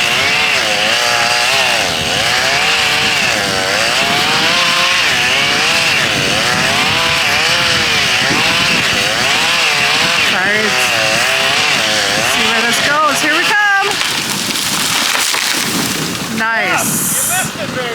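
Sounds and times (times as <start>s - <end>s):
chainsaw cutting tree trunk: 0.0s - 17.6s.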